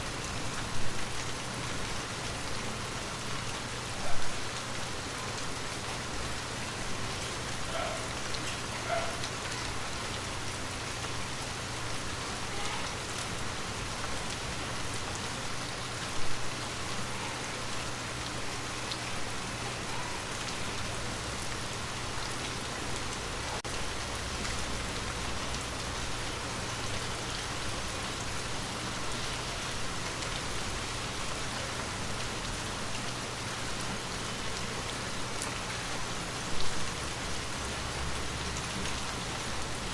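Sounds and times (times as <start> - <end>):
light rain on a window: 0.0 - 39.9.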